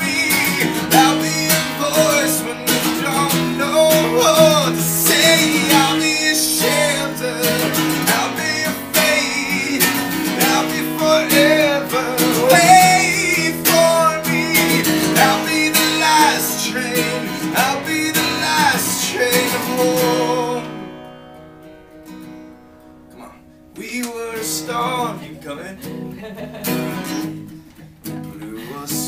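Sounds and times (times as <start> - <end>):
man singing: 0.0 - 20.9, 23.8 - 25.8, 28.4 - 29.0
acoustic guitar strumming: 0.0 - 29.0.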